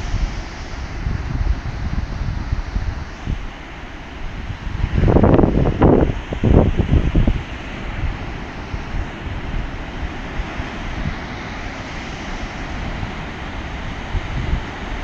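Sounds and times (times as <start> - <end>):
heavy surf breaking: 0.0 - 15.0.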